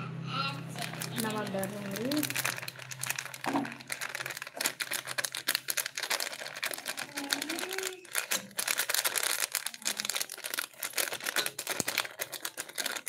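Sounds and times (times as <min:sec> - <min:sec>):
plastic packet crinkling: 0:00.8 - 0:13.0.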